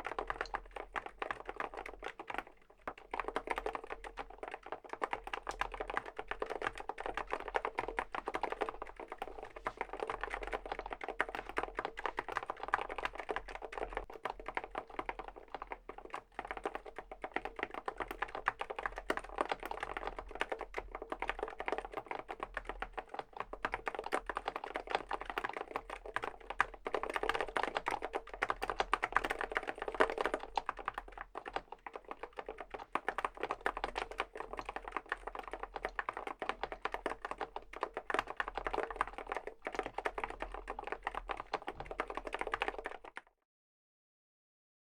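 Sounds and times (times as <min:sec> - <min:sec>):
fast typing on a keyboard: 0:00.0 - 0:43.3.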